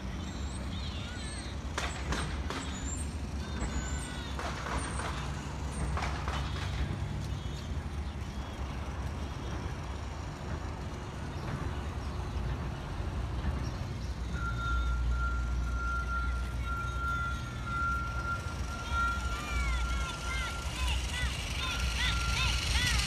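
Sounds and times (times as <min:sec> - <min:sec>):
car engines passing: 0:00.0 - 0:23.0.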